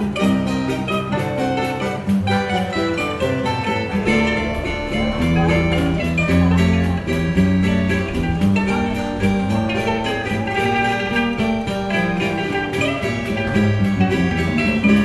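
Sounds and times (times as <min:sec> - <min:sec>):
bass line: 0:00.0 - 0:15.0
plucked string ensemble: 0:00.0 - 0:15.0.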